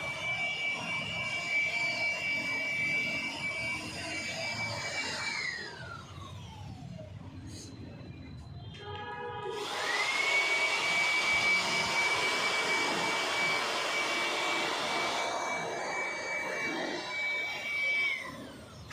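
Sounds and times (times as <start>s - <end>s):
power tool motor whining: 0.0s - 7.0s, 9.5s - 18.9s.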